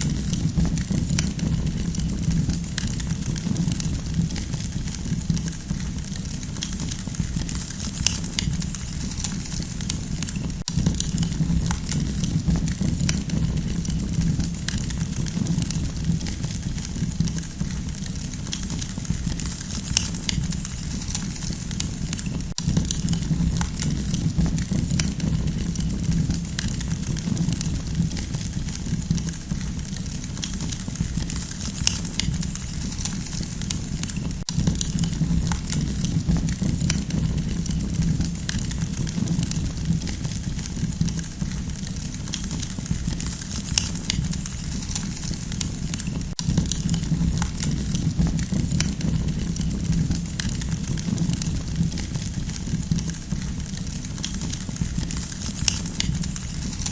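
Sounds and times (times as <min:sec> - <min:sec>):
campfire crackling and popping: 0:00.0 - 0:56.9
low fire rumble: 0:00.0 - 0:56.9.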